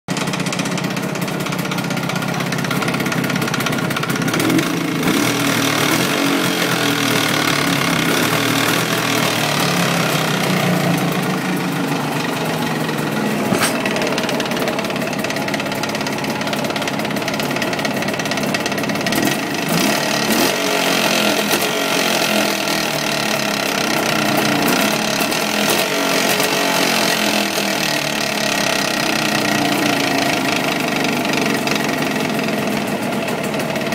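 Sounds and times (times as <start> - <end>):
engine knock: 0.1 - 33.9
two-stroke engine running: 0.1 - 33.9.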